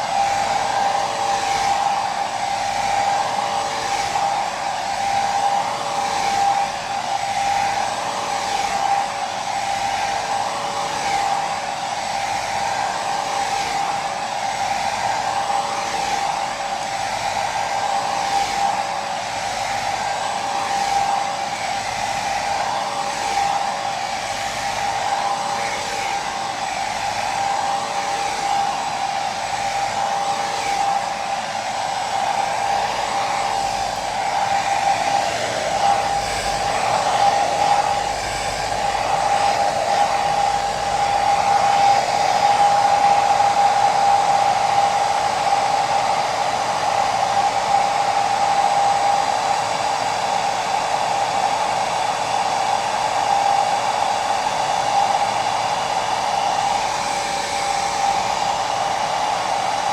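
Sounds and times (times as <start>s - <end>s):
hair dryer blowing: 0.0s - 59.9s
hair dryer motor whine: 0.0s - 59.9s.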